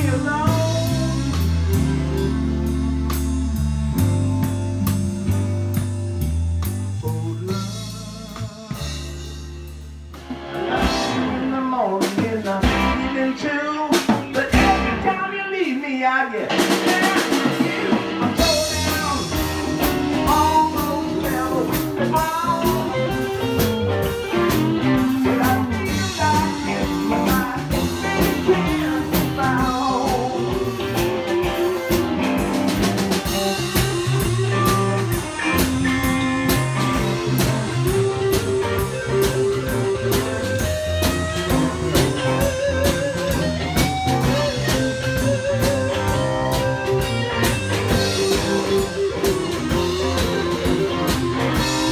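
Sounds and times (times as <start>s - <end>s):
drum kit beat: 0.0s - 15.5s, 16.4s - 51.9s
electric bass: 0.0s - 15.5s, 16.5s - 51.9s
electric guitars: 0.0s - 51.9s
lead guitar line: 0.0s - 51.9s.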